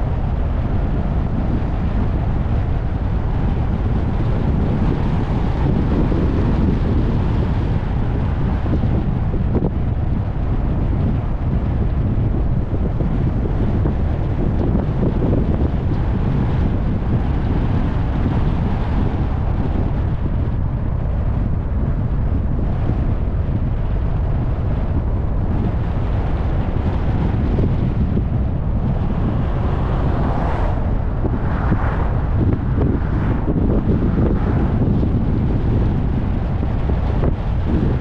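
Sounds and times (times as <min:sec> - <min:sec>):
tyre and road noise: 0:00.0 - 0:38.0
wind rushing over microphone: 0:00.0 - 0:38.0.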